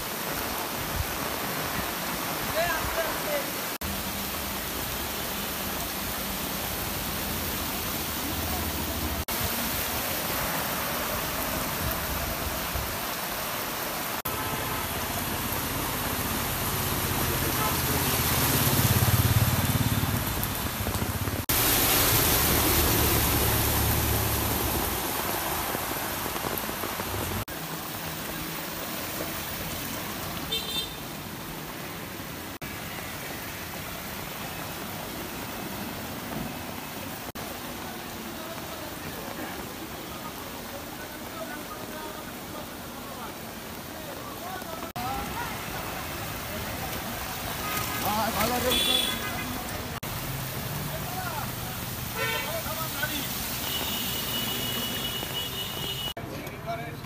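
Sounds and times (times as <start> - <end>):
rain hissing: 0.0 - 56.2
water splashing under tyres: 0.0 - 56.6.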